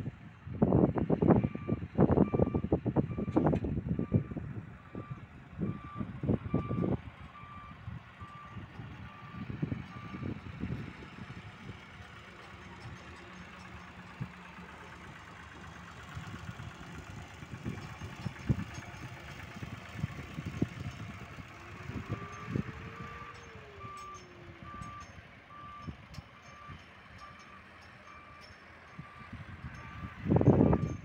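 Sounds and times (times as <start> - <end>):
distant tractor engine running: 1.4 - 31.0.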